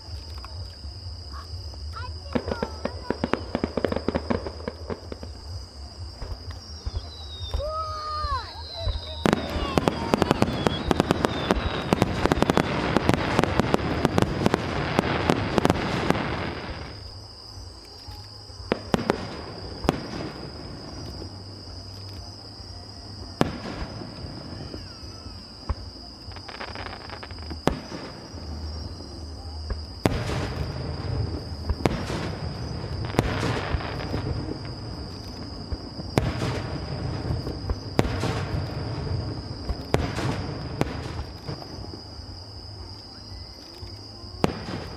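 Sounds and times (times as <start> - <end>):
fireworks crackling and popping: 0.0 - 44.9
firework bangs: 1.3 - 17.2, 18.6 - 22.4, 23.1 - 42.9, 44.3 - 44.9.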